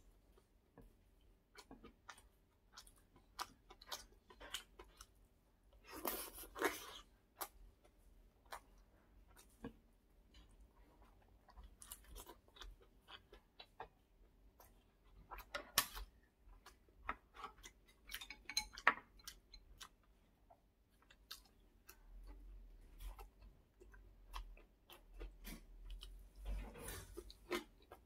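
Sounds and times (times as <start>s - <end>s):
person chewing food: 0.1s - 28.0s.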